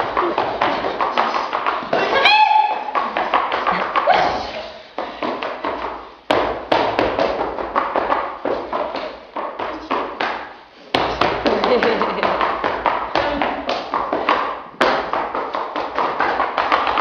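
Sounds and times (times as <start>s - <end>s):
rapid uneven tapping and thuds: 0.0s - 17.0s.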